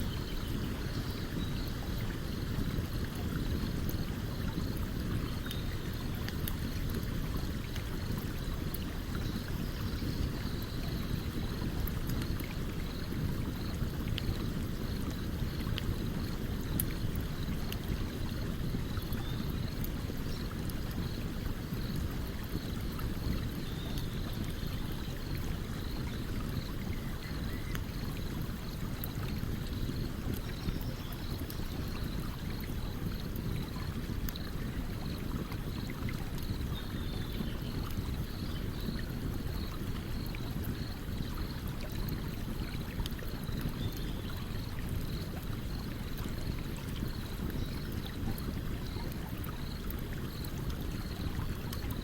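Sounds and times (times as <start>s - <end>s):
stream flowing: 0.1s - 52.0s.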